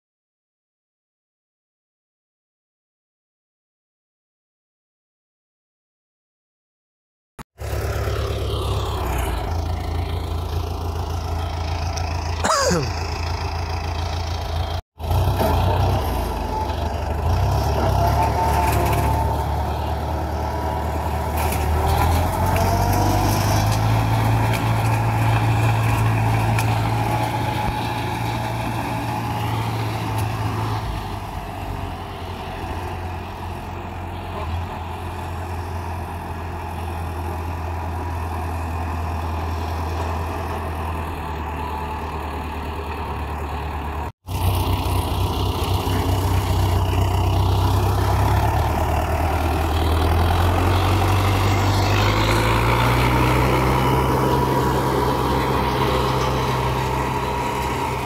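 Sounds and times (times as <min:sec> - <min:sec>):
tractor diesel engine running: 0:07.6 - 0:58.0.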